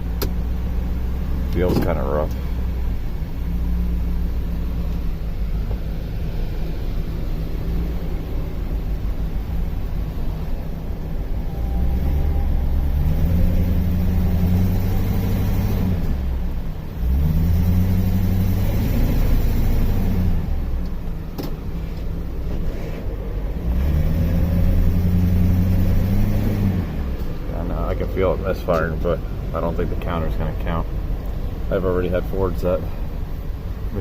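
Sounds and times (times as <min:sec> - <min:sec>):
truck engine accelerating: 0:00.0 - 0:34.0.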